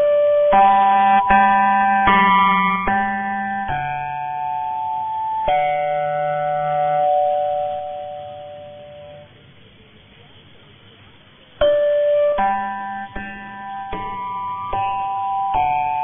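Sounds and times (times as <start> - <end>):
chime-like music on am radio: 0.0 - 9.4, 11.6 - 16.0
faint radio hiss: 0.0 - 16.0.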